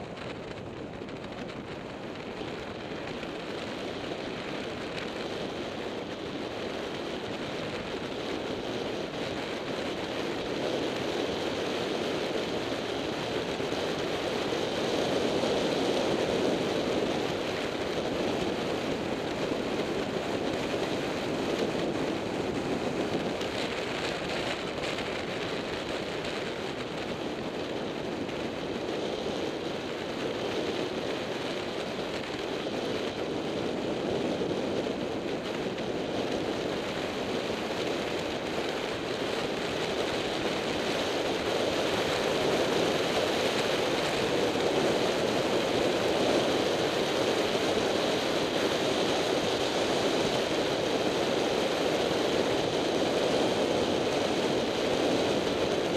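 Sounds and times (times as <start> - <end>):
wind rushing over microphone: 0.0 - 55.9.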